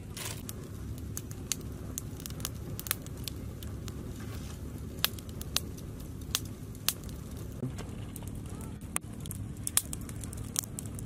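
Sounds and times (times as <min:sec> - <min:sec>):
campfire crackling: 0:00.0 - 0:11.0
fire popping: 0:00.0 - 0:11.0
low rumble: 0:00.0 - 0:11.0.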